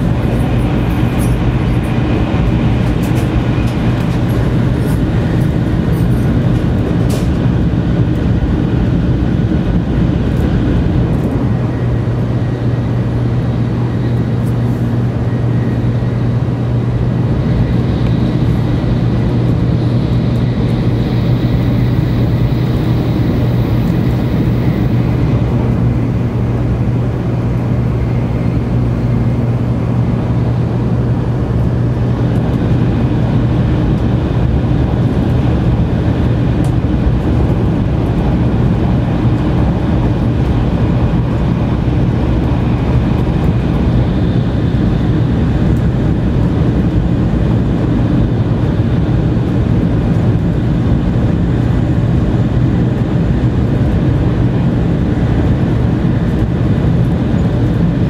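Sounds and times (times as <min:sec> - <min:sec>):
constant low hum: 0:00.0 - 0:58.0
train interior rumble: 0:00.0 - 0:58.0.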